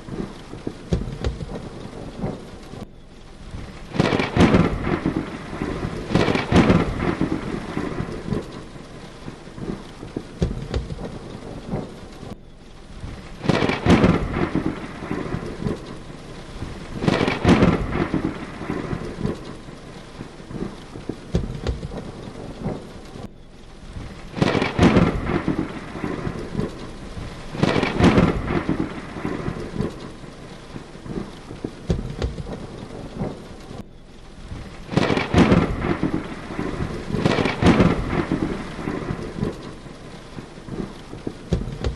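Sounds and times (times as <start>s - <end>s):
heavy rain: 0.0s - 41.9s
thunder cracking and rumbling: 0.0s - 41.9s.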